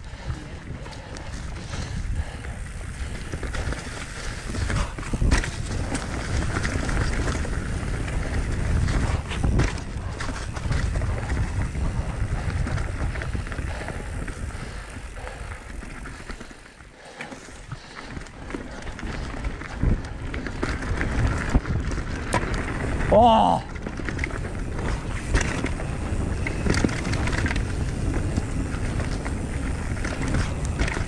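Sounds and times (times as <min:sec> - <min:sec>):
bike tyres rumbling on dirt trail: 0:00.0 - 0:31.0.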